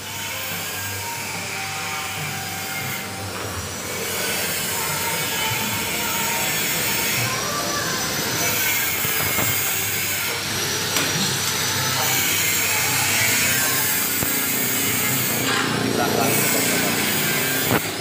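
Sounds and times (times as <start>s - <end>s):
power tool whining: 0.0s - 18.0s.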